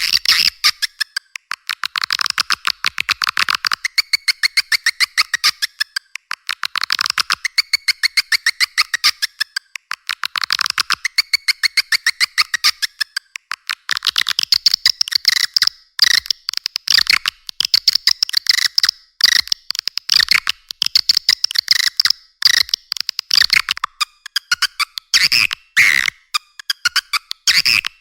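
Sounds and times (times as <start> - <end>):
swiftlets clicking and twittering: 5.1 - 28.0.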